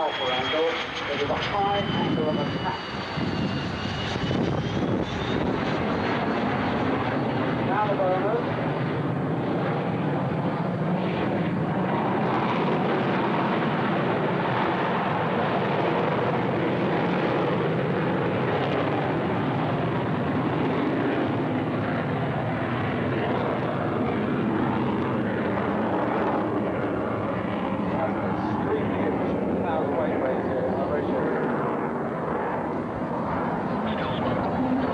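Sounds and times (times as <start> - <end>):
jet engine roaring in afterburner: 0.0 - 34.9.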